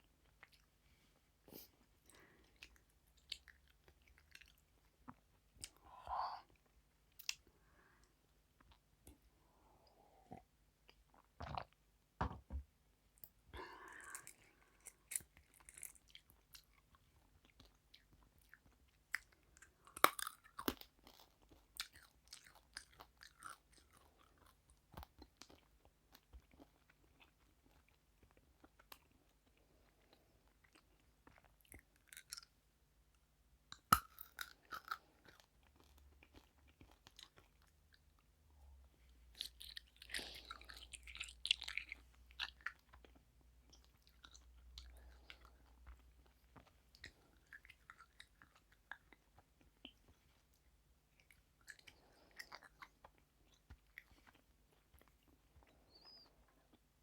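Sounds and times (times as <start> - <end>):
crunchy food chewing: 1.5 - 5.9, 13.6 - 32.6, 33.7 - 38.3, 39.3 - 57.0.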